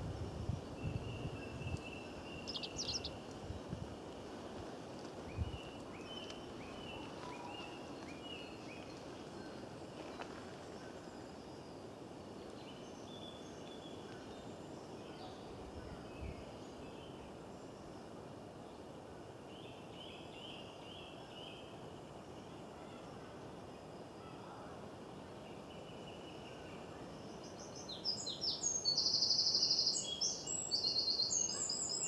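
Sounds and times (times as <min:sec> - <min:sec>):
outdoor background noise: 0:00.0 - 0:32.0
songbirds singing: 0:00.0 - 0:32.0.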